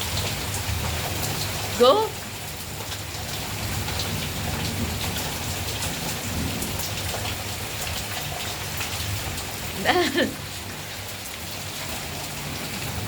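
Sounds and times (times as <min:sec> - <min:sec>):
raindrops ticking on hard surfaces: 0:00.0 - 0:13.0
steady rain falling: 0:00.0 - 0:13.0.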